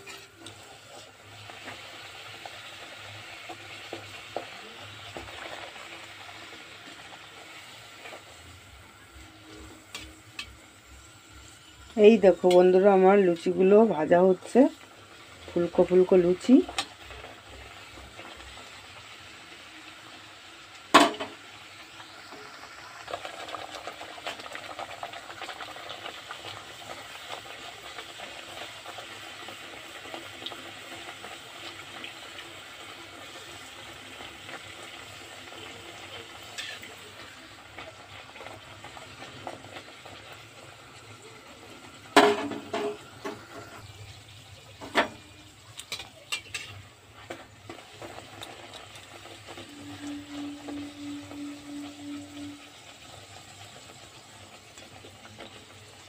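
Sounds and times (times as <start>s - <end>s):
bread sizzling in hot oil: 0.0s - 56.0s.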